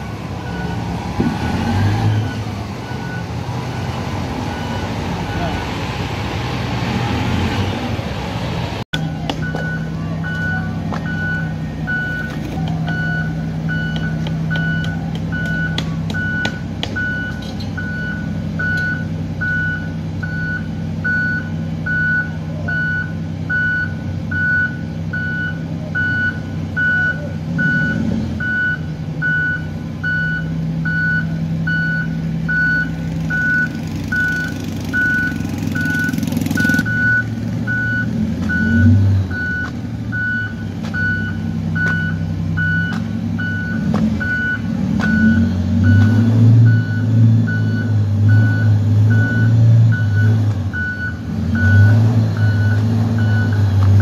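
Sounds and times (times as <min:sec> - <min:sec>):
diesel engine rumble: 0:00.0 - 0:54.0
reversing alarm beeping: 0:00.4 - 0:05.7, 0:09.4 - 0:54.0.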